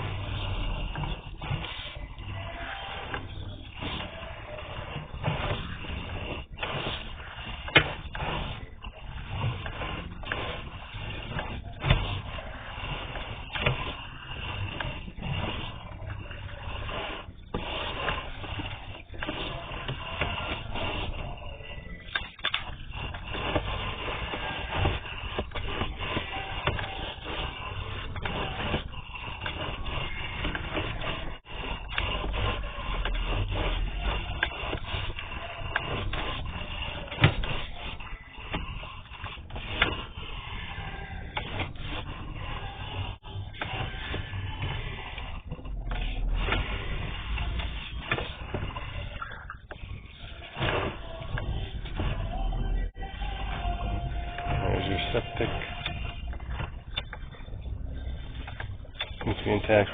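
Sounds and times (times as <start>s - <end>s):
cable scraping inside pipe: 0.0s - 59.9s.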